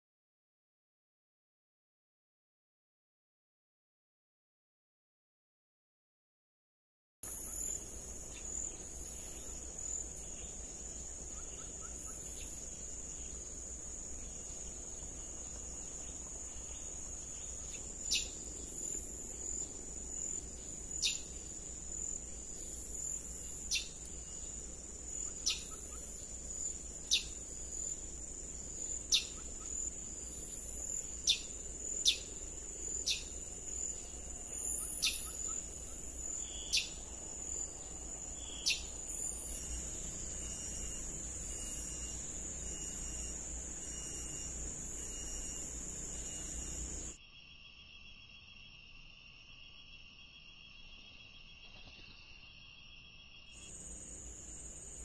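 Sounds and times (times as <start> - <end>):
insects droning: 7.2 - 55.0.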